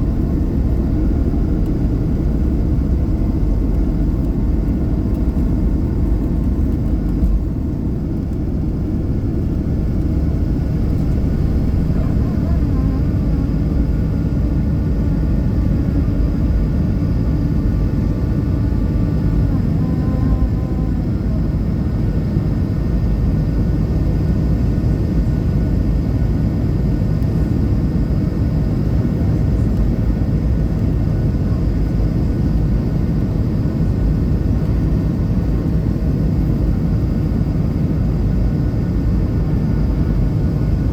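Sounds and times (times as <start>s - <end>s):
airplane engines rumbling: 0.0s - 40.9s.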